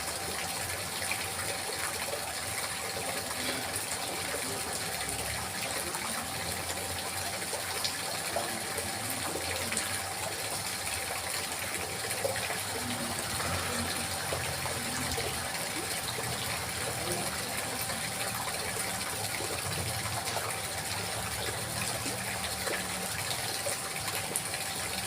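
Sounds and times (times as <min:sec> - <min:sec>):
running water babbling: 0:00.0 - 0:25.0
water splashes and drips: 0:00.0 - 0:25.0.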